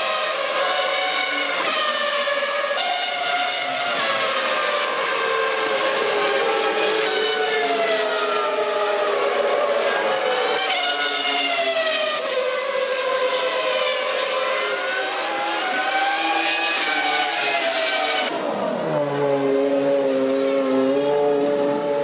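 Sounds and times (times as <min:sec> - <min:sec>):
racing car engines: 0:00.0 - 0:22.0.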